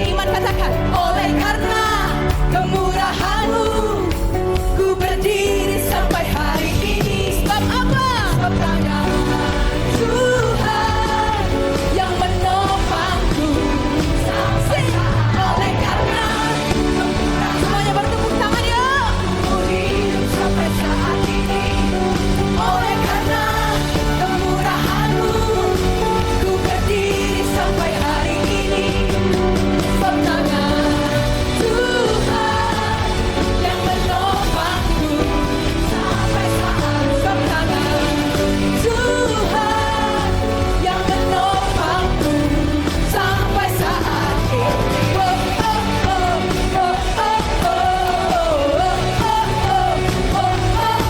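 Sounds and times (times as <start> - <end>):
live band playing: 0.0 - 51.0
people singing: 0.0 - 51.0.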